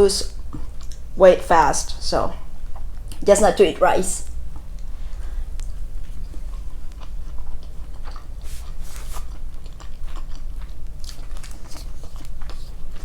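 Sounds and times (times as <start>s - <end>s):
person chewing wetly: 0.2s - 1.2s, 2.4s - 3.2s, 4.3s - 13.0s.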